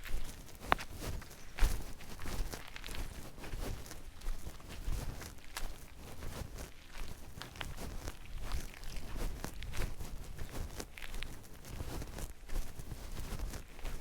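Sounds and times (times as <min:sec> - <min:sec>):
footsteps on outdoor path: 0:00.0 - 0:14.0.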